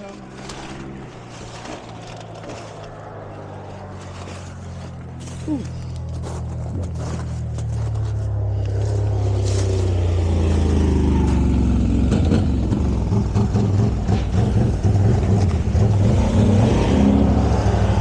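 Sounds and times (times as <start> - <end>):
vehicle engine running unevenly: 0.0 - 18.0.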